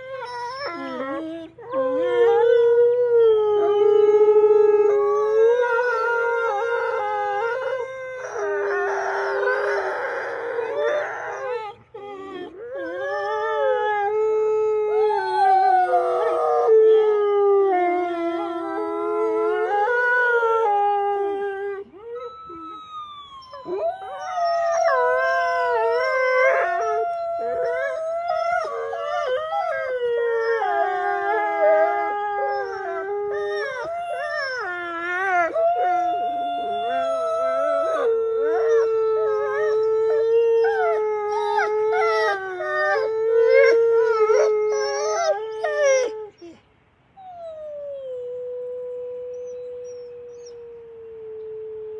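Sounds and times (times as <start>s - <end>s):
dogs howling in chorus: 0.0s - 46.6s.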